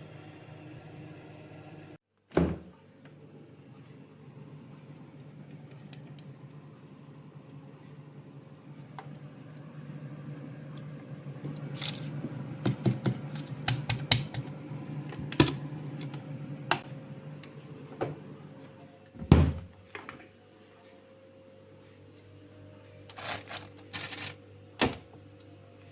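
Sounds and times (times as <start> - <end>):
steady low hum: 2.7 - 25.9.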